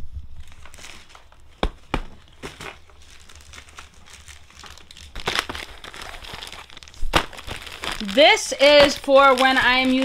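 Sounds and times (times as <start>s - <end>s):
plastic packaging crinkling: 0.4s - 10.0s.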